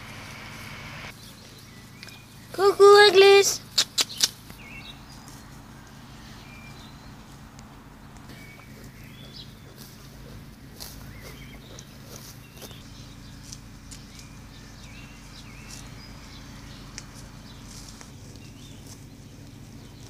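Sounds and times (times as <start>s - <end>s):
steady low hum: 0.0s - 2.6s, 3.6s - 20.0s
ponies tearing and chewing grass: 0.0s - 20.0s
small birds chirping: 0.0s - 20.0s.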